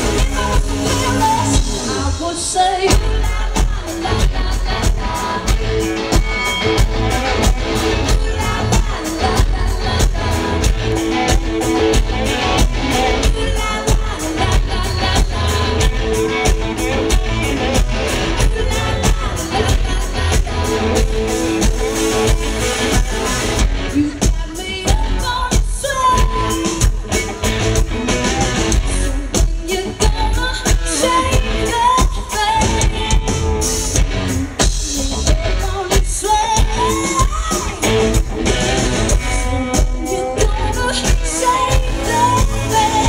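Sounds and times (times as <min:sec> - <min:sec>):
rock band playing live: 0:00.0 - 0:43.0
woman singing lead vocal: 0:00.0 - 0:43.0.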